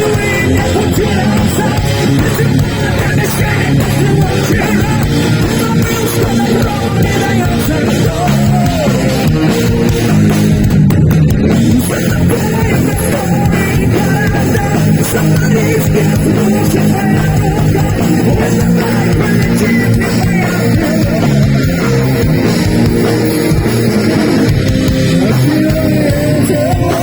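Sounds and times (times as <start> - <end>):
rock band playing heavy metal: 0.0 - 27.0.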